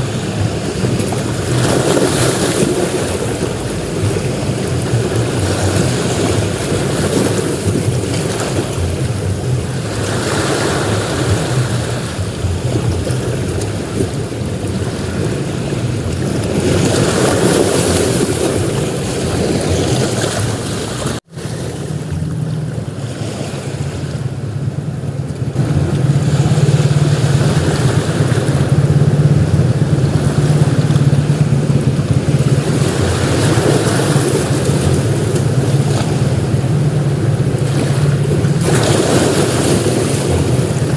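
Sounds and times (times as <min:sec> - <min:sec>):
sea waves breaking on beach: 0:00.0 - 0:40.9
wind rumbling on microphone: 0:00.0 - 0:40.9.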